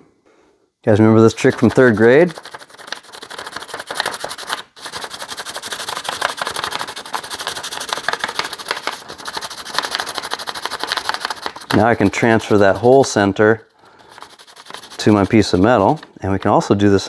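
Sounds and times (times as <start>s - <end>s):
pencil scribbling on paper: 1.3s - 13.0s, 13.9s - 16.0s.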